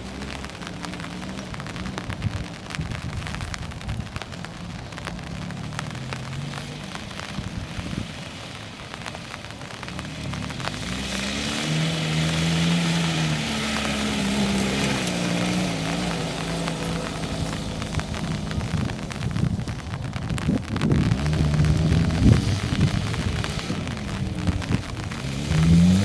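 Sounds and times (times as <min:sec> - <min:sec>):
car engine under load: 0:00.0 - 0:26.0.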